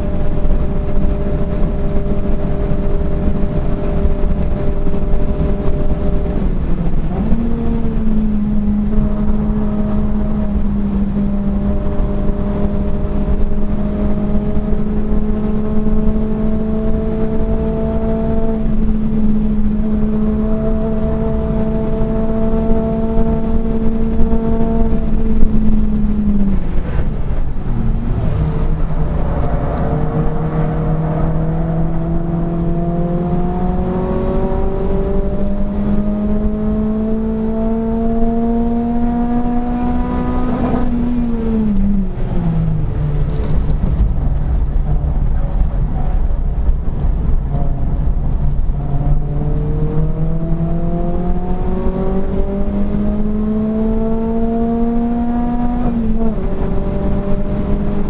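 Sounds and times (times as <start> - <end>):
car engine from inside cabin: 0.0 - 58.0
road and tyre rumble: 0.0 - 58.0.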